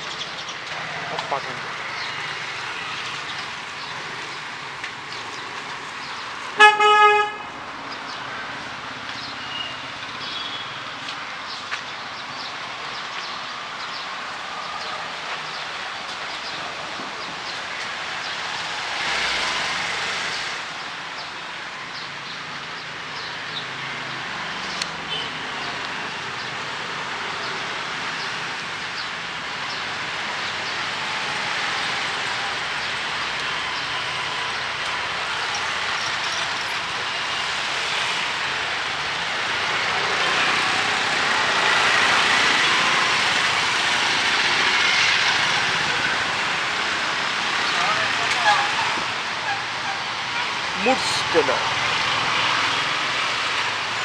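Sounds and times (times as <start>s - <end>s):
rain hiss on wet street: 10.6s - 54.0s.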